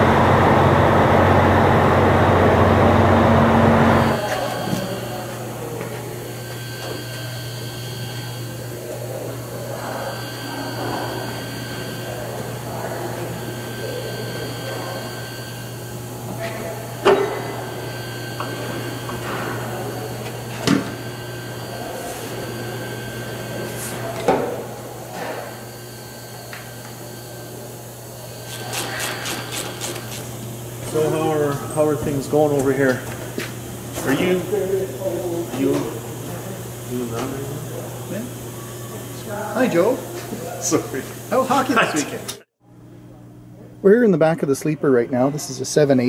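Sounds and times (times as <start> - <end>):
steady low hum: 0.0 - 44.8.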